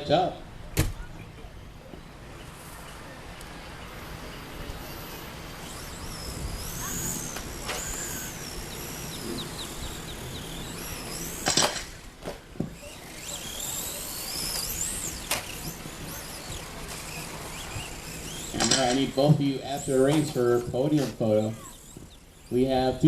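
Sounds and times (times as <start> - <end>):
rc truck motors whining: 0.0 - 23.0.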